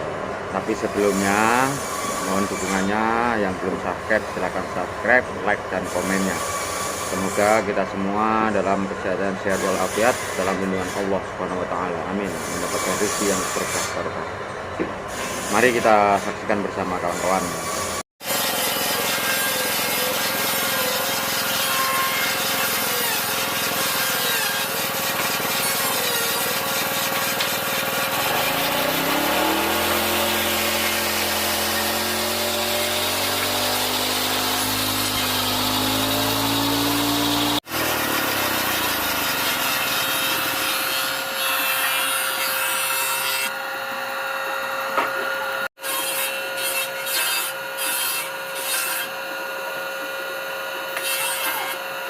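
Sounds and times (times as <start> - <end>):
power tools cutting wood: 0.6 - 14.1, 15.1 - 52.0.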